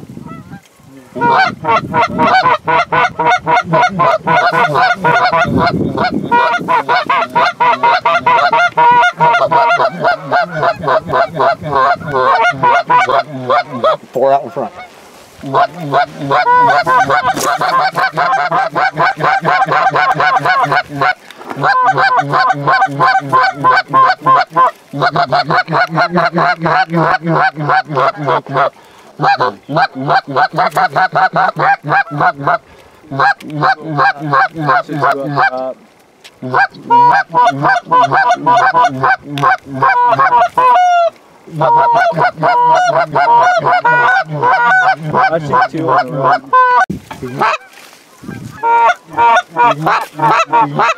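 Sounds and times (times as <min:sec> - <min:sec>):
goose call clucks and honks: 0:00.2 - 0:35.7, 0:36.4 - 0:50.9.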